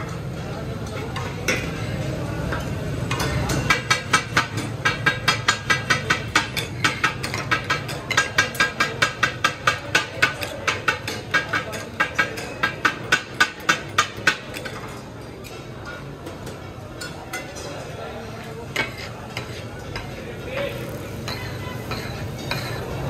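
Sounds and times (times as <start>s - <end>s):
steel blades clanging on griddle: 1.0s - 23.0s.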